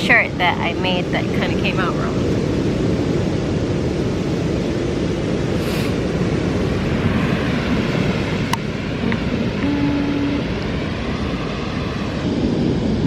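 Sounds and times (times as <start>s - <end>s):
ocean surf: 0.0s - 13.0s
wind across microphone: 0.0s - 13.0s.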